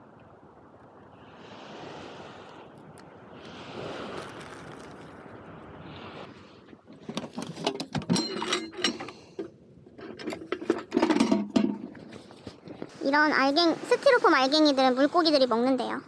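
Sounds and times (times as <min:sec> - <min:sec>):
surf: 0:00.0 - 0:07.8, 0:10.6 - 0:16.0
wind: 0:00.0 - 0:16.0.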